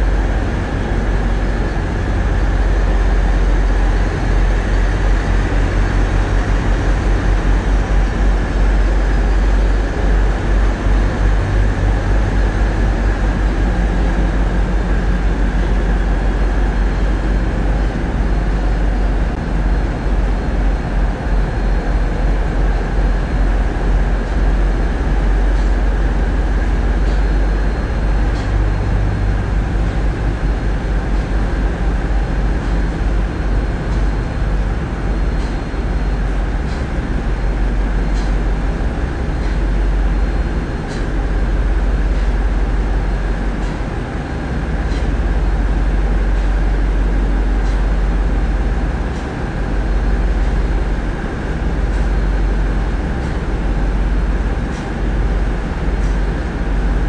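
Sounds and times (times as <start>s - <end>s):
boat diesel engines droning: 0.0s - 57.0s.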